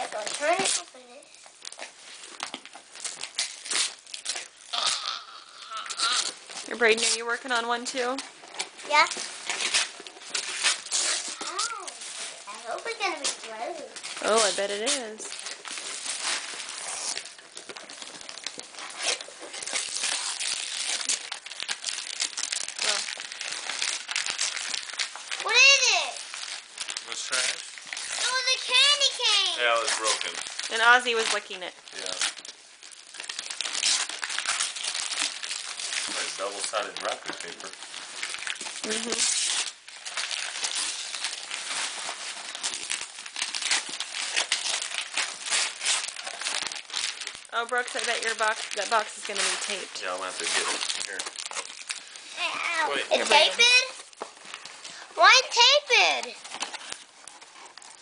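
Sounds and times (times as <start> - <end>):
wrapping paper tearing and crinkling: 0.0 - 58.0.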